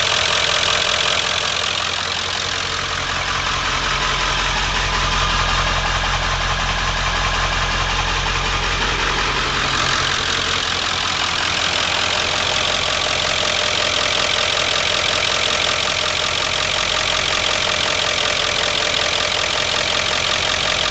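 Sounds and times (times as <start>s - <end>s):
diesel engine idling: 0.0s - 20.9s.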